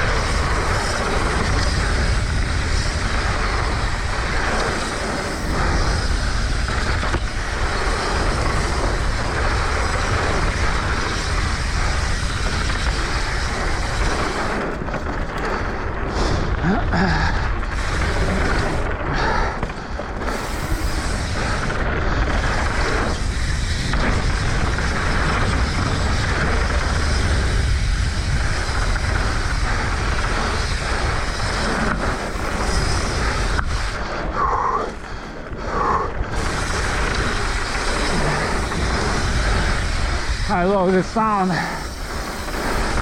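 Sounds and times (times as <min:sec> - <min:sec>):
tyre noise on dirt: 0:00.0 - 0:40.8
bike rattling: 0:00.0 - 0:43.0
wind rumble on microphone: 0:00.0 - 0:43.0.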